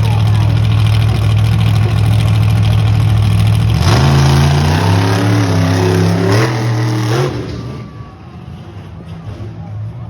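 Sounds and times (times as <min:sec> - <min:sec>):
monster truck engine revving: 0:00.0 - 0:09.9.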